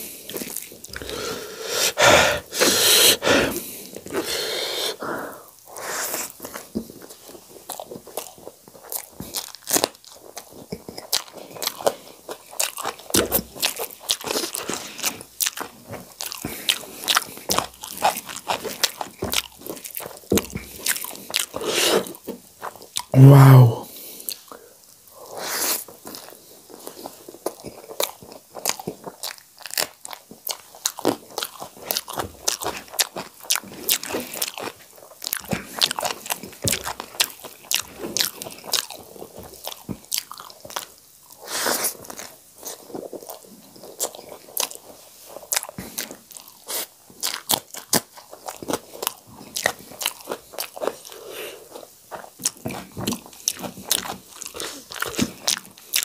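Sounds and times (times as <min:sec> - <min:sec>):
crunchy chewing: 0:00.0 - 0:23.2, 0:23.9 - 0:56.0.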